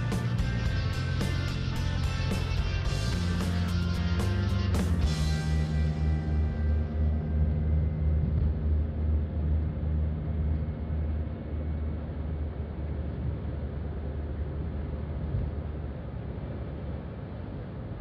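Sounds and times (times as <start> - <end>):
car engine and tyre drone: 0.0 - 15.6.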